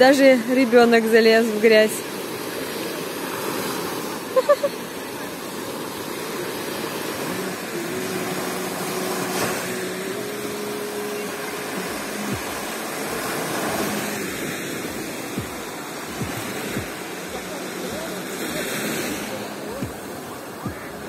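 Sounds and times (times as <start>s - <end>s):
small waves breaking on beach: 0.0s - 21.0s.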